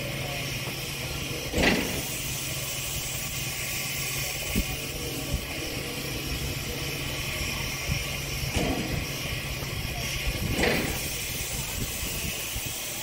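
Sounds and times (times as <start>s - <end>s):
constant hiss: 0.0s - 13.0s
locomotive idling hum: 0.0s - 13.0s.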